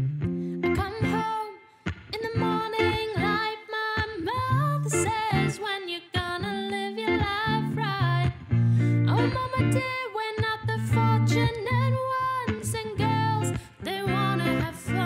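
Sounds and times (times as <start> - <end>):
guitar accompaniment: 0.0 - 15.0
woman singing pop song: 0.6 - 15.0.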